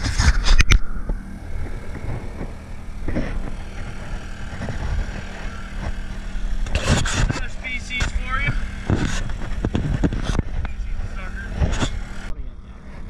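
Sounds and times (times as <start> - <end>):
boat engine running steadily: 0.0 - 13.0.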